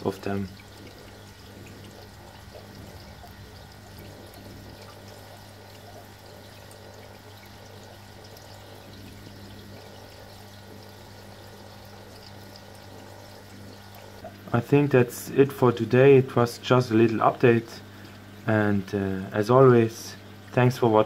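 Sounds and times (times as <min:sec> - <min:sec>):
aquarium water trickling: 0:00.0 - 0:21.0
low steady hum: 0:00.0 - 0:21.0.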